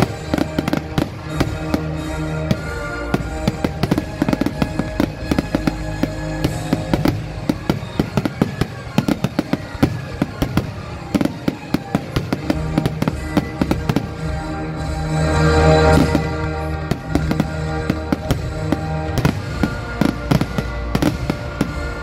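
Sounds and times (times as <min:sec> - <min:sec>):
fireworks bangs and crackles: 0:00.0 - 0:22.0
music: 0:00.0 - 0:22.0.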